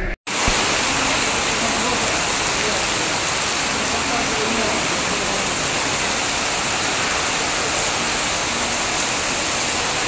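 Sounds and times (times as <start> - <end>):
heavy rain pouring: 0.3 - 10.0
water streaming onto stone paving: 0.3 - 10.0.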